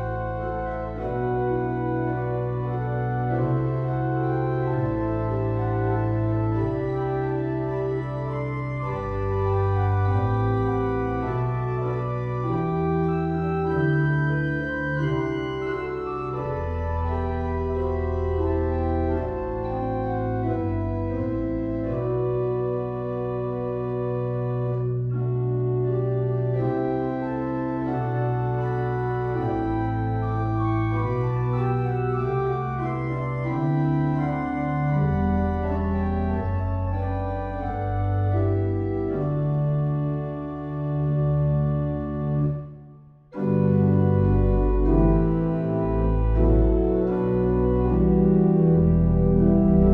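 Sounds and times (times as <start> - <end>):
organ playing sustained chords: 0.0 - 49.9.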